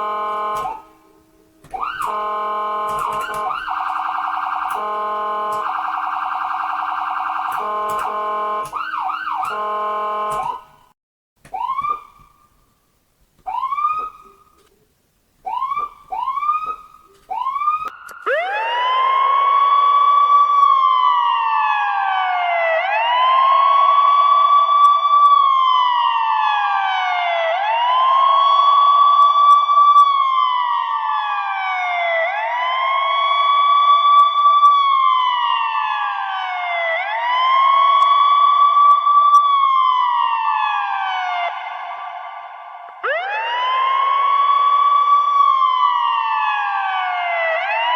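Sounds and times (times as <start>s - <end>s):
ambulance siren wailing: 0.0s - 10.9s, 11.5s - 12.5s, 13.5s - 14.6s, 15.5s - 47.9s.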